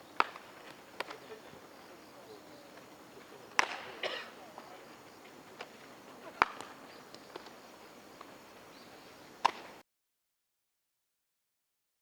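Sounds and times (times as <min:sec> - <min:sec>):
baseballs cracking against bats: 0:00.0 - 0:09.8
faint open-air background: 0:00.0 - 0:09.8.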